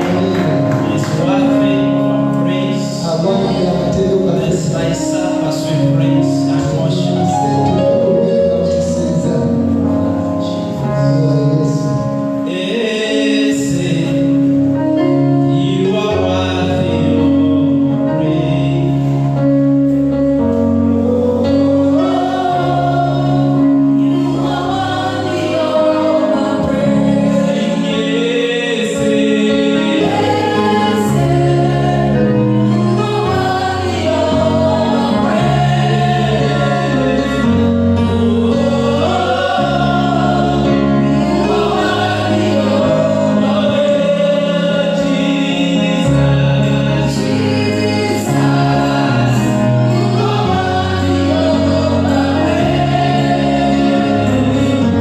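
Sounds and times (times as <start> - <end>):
gospel choir singing: 0.0 - 55.0
keyboard chords: 0.0 - 55.0.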